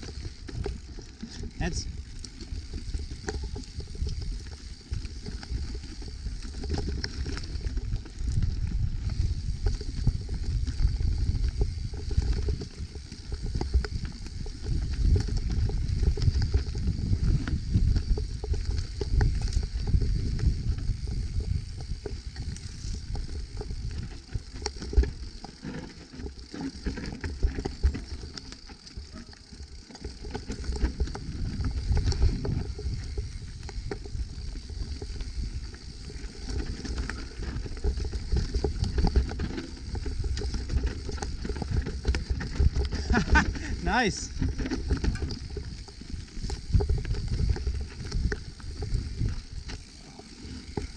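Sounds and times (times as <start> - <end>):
bike rattling and knocking: 0.0 - 50.9
bike tyres rumbling on dirt: 0.0 - 50.9.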